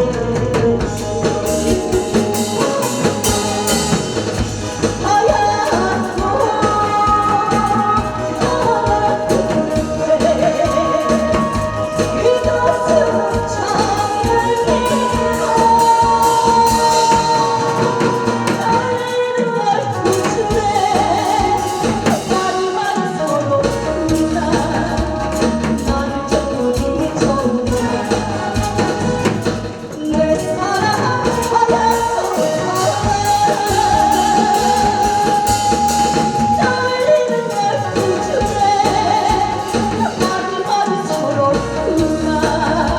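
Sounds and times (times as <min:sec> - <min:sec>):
musical accompaniment: 0:00.0 - 0:42.9
person singing: 0:00.0 - 0:42.9.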